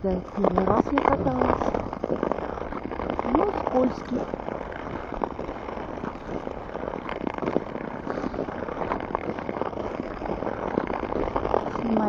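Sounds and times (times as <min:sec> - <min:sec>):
ice skates scraping on ice: 0:00.0 - 0:12.0
wind buffeting microphone: 0:00.0 - 0:12.0.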